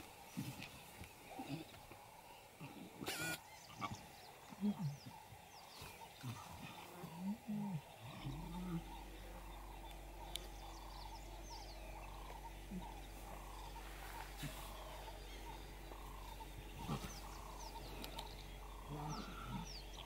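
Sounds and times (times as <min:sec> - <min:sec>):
steady low hum: 0:00.0 - 0:20.0
lions calling: 0:00.4 - 0:20.0.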